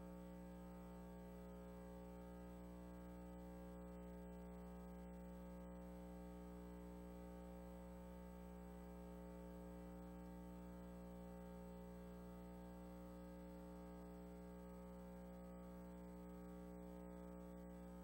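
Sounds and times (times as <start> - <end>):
faint sound system hum: 0.0 - 18.0.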